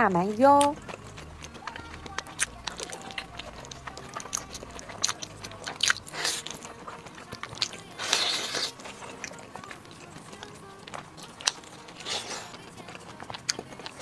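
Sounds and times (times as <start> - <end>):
crispy food crunching: 0.2 - 14.0.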